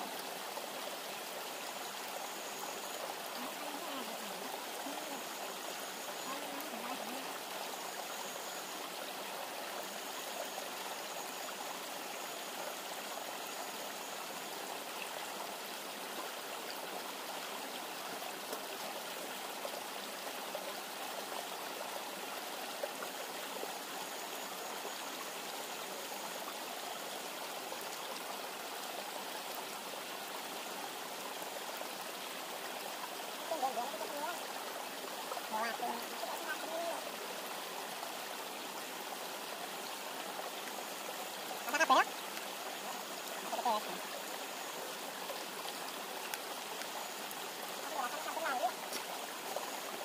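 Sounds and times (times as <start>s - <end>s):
river flowing: 0.0s - 50.0s.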